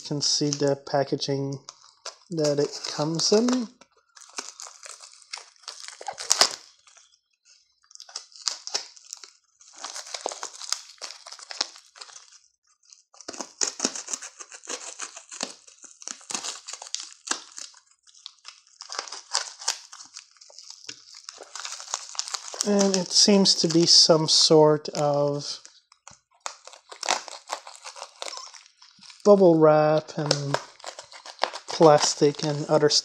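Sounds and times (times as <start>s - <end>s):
plastic packaging crinkling: 1.3s - 33.0s.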